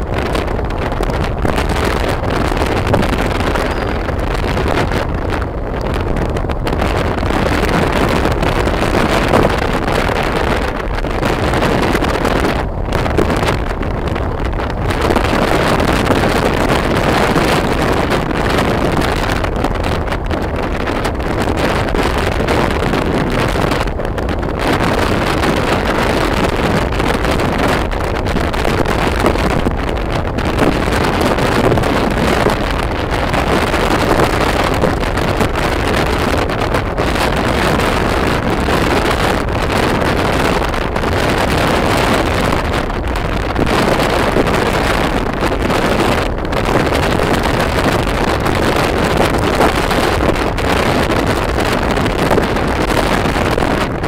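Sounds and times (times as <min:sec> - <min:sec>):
motorbike running: 0:00.0 - 0:54.0
wind roaring over microphone: 0:00.0 - 0:54.0.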